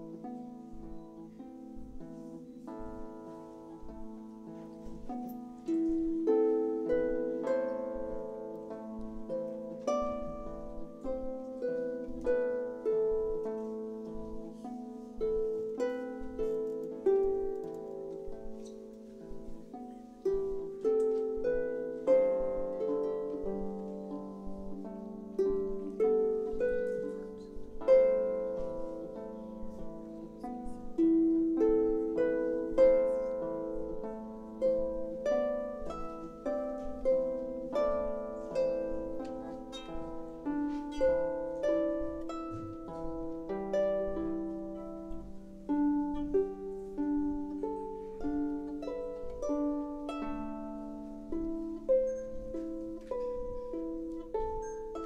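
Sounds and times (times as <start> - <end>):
harps playing plucked melody: 0.0 - 55.0.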